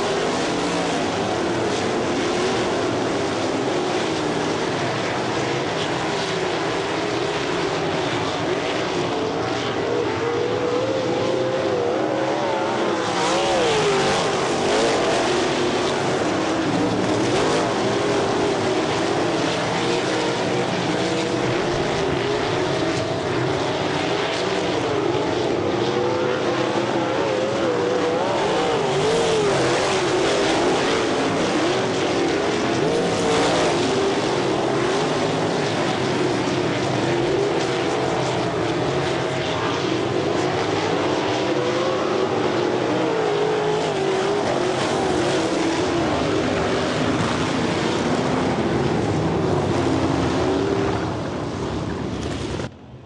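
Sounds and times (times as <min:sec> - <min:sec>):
race car engines running hard: 0:00.0 - 0:53.0.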